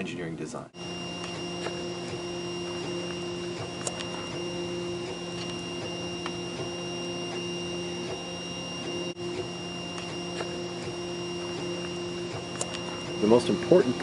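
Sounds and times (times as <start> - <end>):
stepper motors whining: 0.8 - 14.0.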